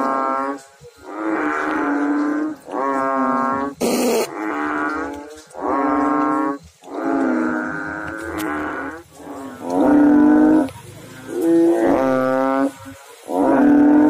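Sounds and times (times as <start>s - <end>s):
bullfrogs calling: 0.0s - 14.0s.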